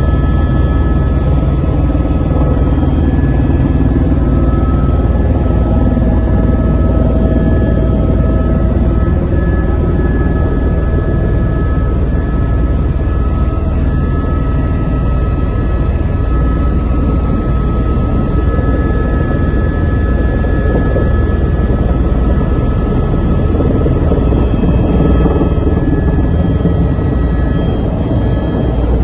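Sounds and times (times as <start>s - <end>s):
helicopter rumbling: 0.0s - 29.0s
whining tones: 0.0s - 29.0s.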